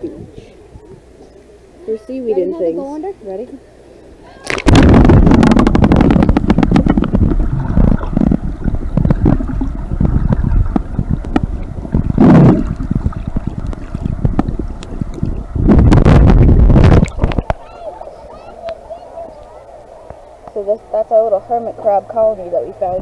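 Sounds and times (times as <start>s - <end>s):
muffled underwater rumble: 3.8s - 23.0s
underwater crackles and clicks: 4.5s - 23.0s.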